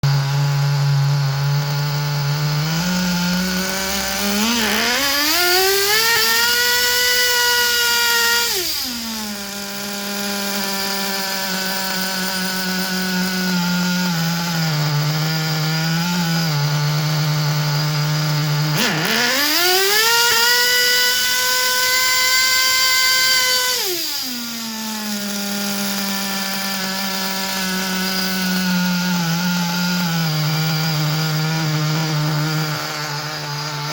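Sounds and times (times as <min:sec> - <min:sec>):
model car nitro engine revving: 0:00.0 - 0:33.9.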